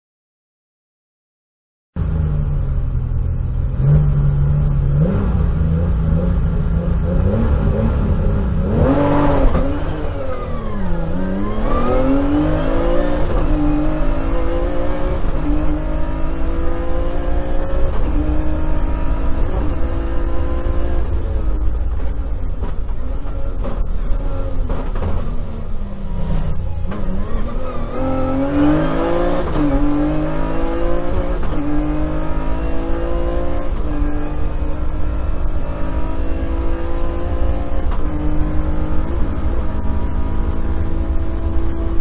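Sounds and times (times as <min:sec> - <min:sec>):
rally car engine accelerating: 0:02.0 - 0:42.0.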